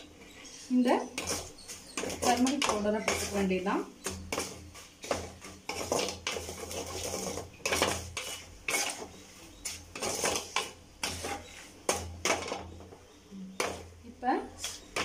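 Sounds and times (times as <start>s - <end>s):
metal ladle scraping a pan: 0.0s - 12.8s
spices frying in oil: 0.8s - 12.9s.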